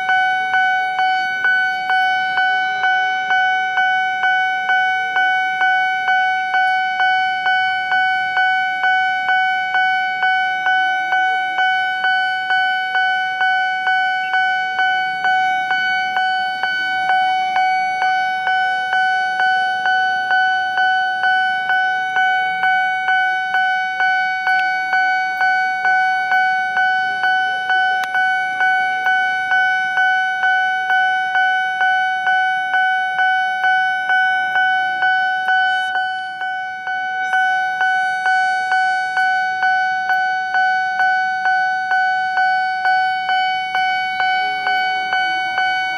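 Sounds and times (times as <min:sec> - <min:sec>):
level crossing warning bell: 0:00.0 - 0:45.9.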